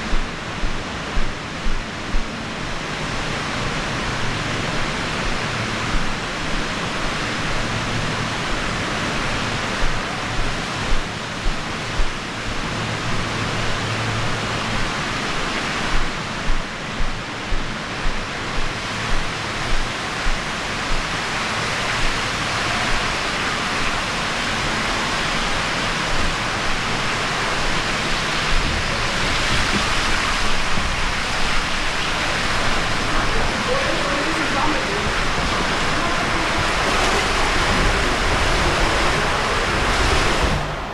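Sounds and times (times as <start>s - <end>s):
water rushing down waterslides: 0.0s - 40.9s.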